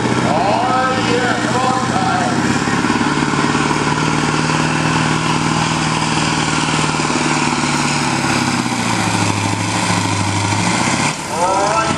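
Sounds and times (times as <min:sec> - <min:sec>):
diesel truck engine running: 0:00.0 - 0:11.9.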